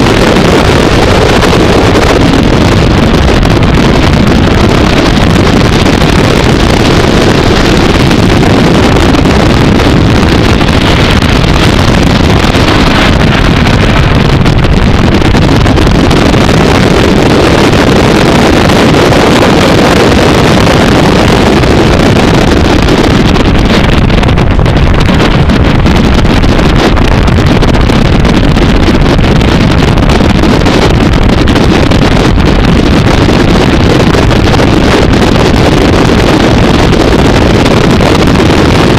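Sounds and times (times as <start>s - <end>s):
race car engine running hard: 0.0s - 38.9s
wind buffeting microphone: 0.0s - 38.9s.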